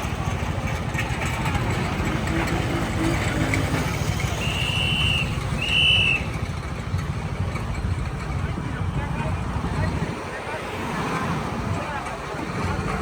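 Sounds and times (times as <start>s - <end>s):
engine idling: 0.0s - 10.6s.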